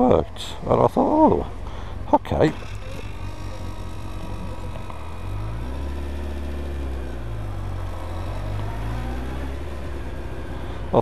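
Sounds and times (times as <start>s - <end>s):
motorcycle engine revving: 1.0s - 11.0s.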